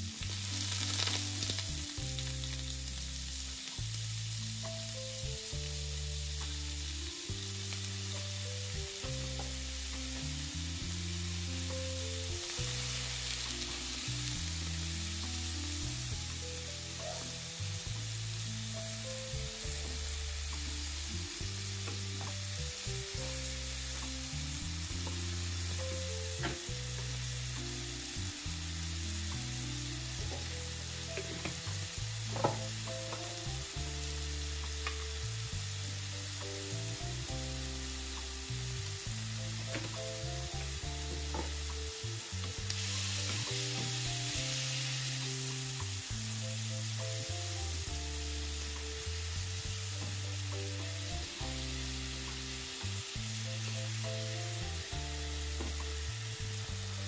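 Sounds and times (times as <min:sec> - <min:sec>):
seafood sizzling in oil: 0:00.0 - 0:57.0
soft background music: 0:00.0 - 0:57.0.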